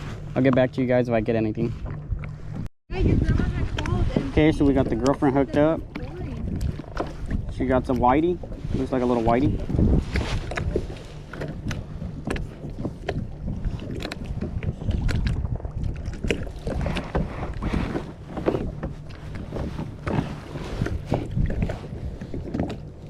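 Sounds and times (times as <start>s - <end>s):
water knocking and splashing on hull: 0.0s - 23.0s
wind buffeting microphone: 0.0s - 23.0s.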